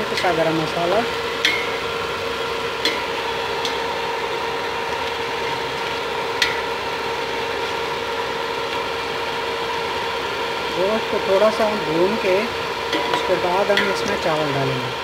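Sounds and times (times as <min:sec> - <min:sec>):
steady hum: 0:00.0 - 0:15.0
stew bubbling in pot: 0:00.0 - 0:15.0.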